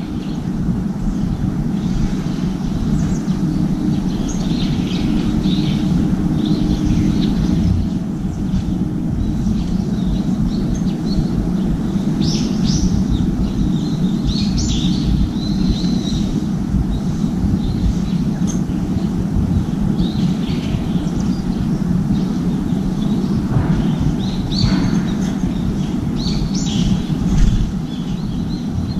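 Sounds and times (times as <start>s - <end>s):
low outdoor rumble: 0.0s - 28.9s.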